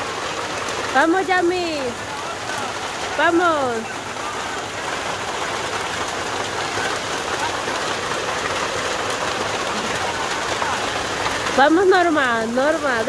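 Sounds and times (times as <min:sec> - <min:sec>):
rain falling on grass: 0:00.0 - 0:13.0.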